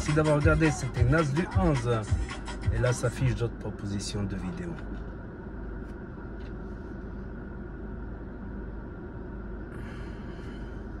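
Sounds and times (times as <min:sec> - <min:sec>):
vehicle engines idling: 0:00.0 - 0:11.0.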